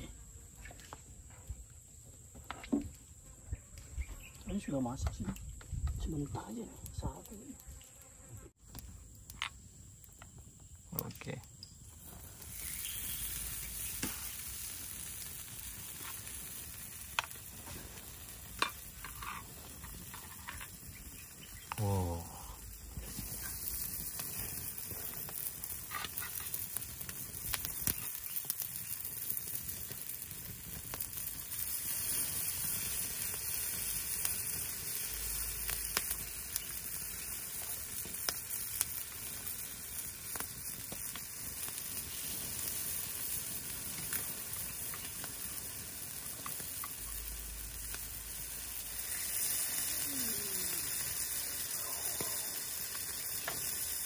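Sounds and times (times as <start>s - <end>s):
fire crackling and popping: 0.0s - 54.0s
chicken sizzling on grill: 3.7s - 54.0s.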